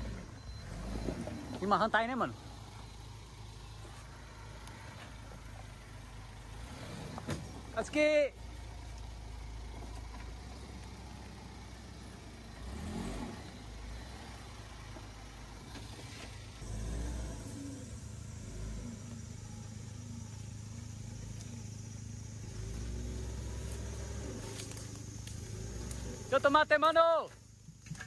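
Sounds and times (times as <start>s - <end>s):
off-road vehicle engine rumbling: 0.0s - 28.0s
vehicle driving through brush: 0.0s - 28.0s.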